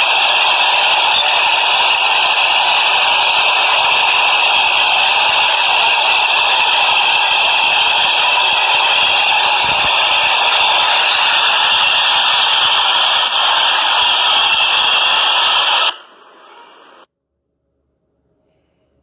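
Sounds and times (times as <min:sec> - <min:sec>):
subway train rushing: 0:00.0 - 0:17.1.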